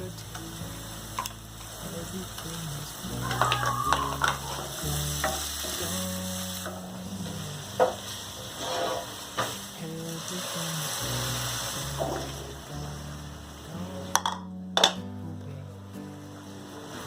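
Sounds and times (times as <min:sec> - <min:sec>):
food sizzling in a pan: 0:00.0 - 0:14.4
soft background music: 0:00.0 - 0:17.0.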